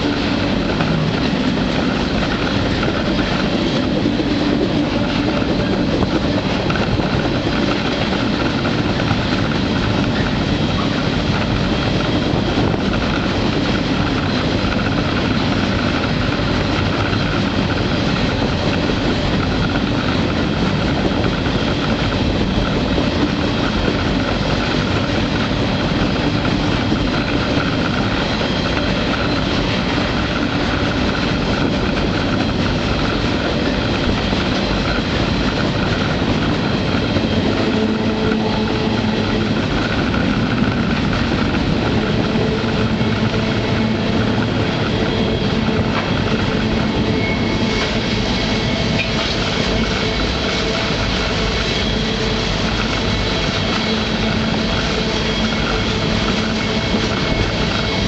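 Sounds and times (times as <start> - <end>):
train cars rolling on rails: 0.0 - 58.0.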